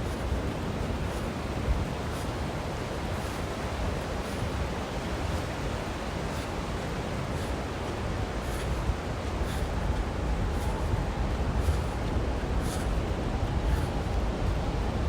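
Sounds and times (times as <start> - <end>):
ocean surf: 0.0 - 15.0
wind rumbling on microphone: 0.0 - 15.0.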